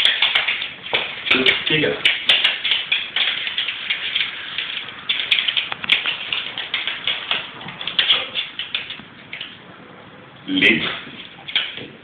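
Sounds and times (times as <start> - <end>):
dog claws clicking on wooden floor: 0.0 - 9.6, 11.2 - 12.0.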